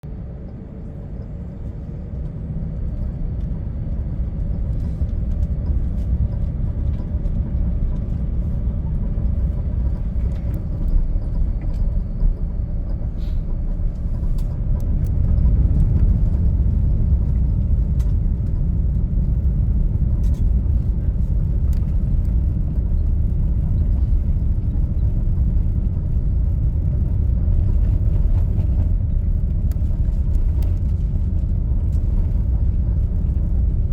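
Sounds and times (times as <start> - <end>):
aircraft cabin engine rumble: 0.0 - 33.9.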